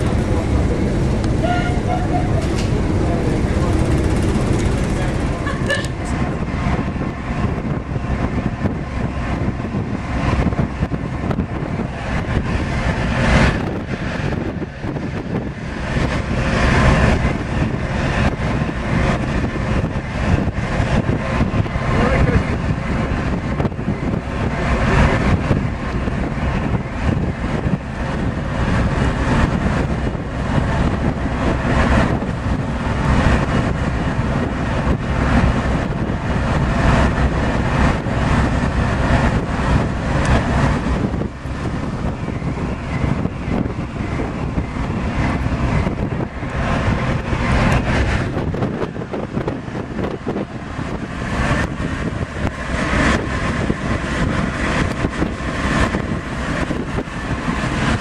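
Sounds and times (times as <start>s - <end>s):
ship engines rumbling: 0.0s - 58.0s
wind buffeting microphone: 0.0s - 58.0s.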